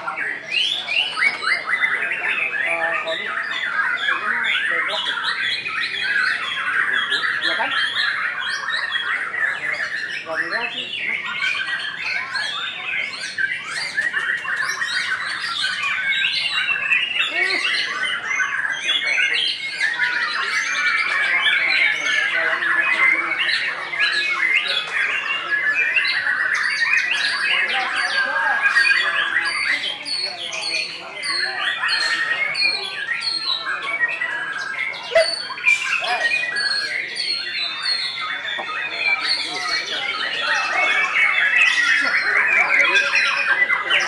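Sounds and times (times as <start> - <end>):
other birds calling: 0.0 - 44.0.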